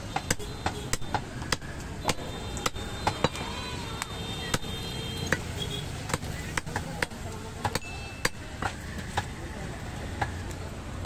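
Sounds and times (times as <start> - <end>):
cleavers chopping meat on wood: 0.0 - 9.4, 10.1 - 10.6.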